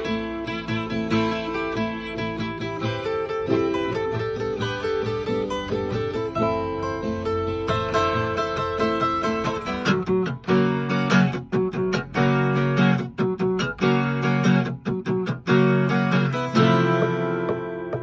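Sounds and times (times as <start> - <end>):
acoustic guitars strumming chords: 0.0 - 18.0.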